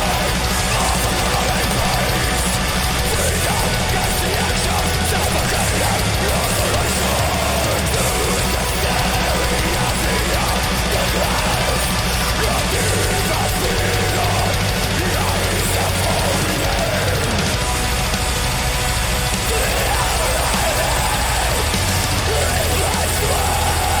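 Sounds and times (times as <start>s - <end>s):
black metal song: 0.0s - 24.0s.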